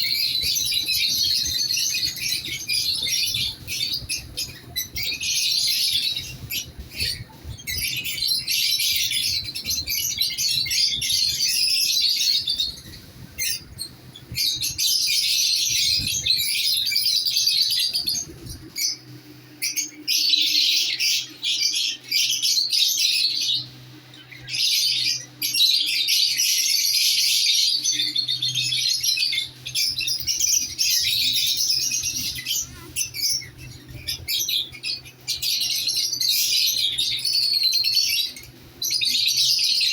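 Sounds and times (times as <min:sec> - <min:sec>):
lovebirds chattering and squawking: 0:00.0 - 0:39.9.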